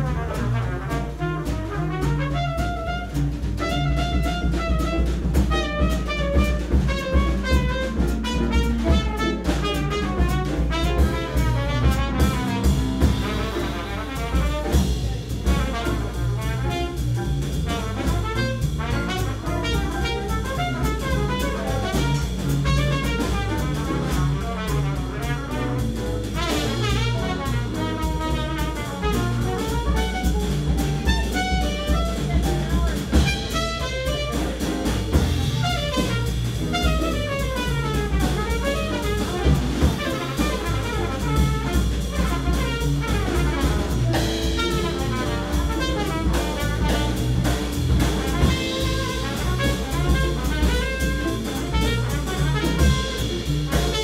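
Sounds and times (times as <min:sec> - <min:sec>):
drum kit: 0:00.0 - 0:54.0
jazz trumpet: 0:00.0 - 0:54.0
piano: 0:00.0 - 0:54.0.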